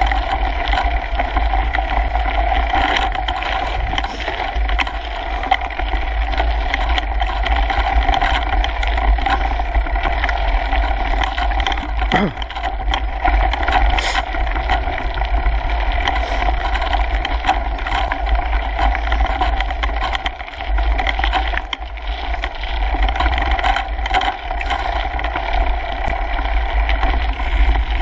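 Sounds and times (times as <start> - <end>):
bike rattles and clicks: 0.0 - 28.0
bike tyres on gravel: 0.0 - 28.0.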